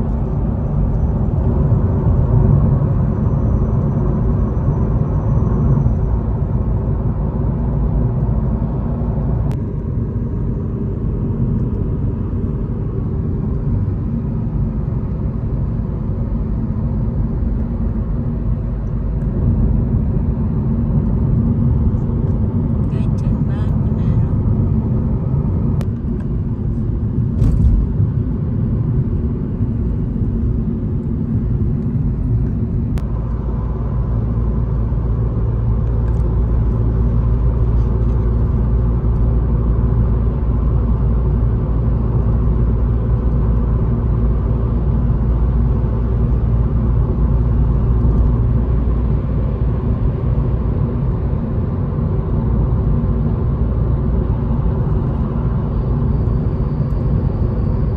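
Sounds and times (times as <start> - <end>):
road and engine rumble: 0.0 - 57.9.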